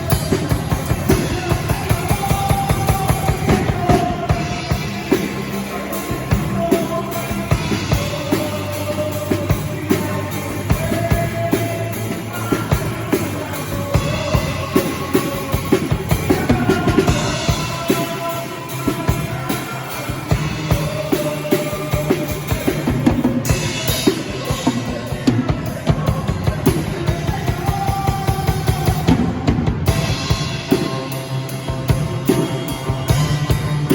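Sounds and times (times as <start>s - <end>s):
bass notes: 0.0s - 33.9s
drum kit beat: 0.0s - 33.9s
instrumental band playing: 0.0s - 33.9s.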